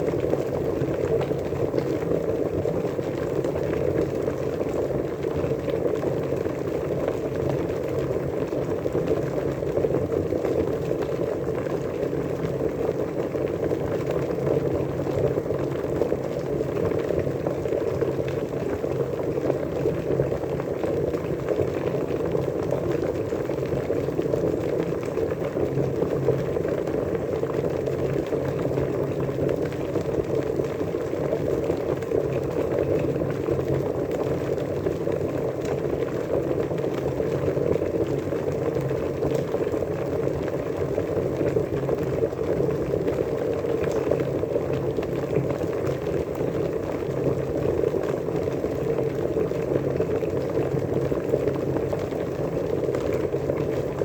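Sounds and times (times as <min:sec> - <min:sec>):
water bubbling at a rolling boil: 0:00.0 - 0:54.0.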